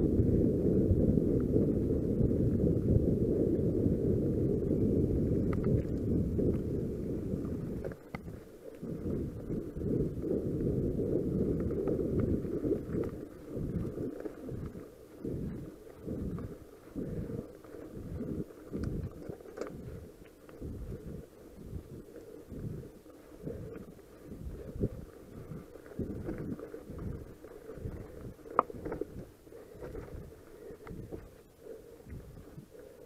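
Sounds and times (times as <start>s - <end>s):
wind rumble on microphone: 0.0s - 33.0s
faint bike clicks: 4.6s - 33.0s.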